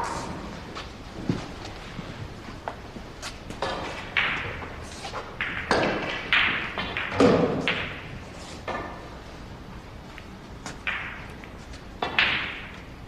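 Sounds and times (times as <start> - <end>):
billiard balls clacking: 1.2 - 13.0
balls rolling on table: 1.3 - 9.3, 10.1 - 13.0.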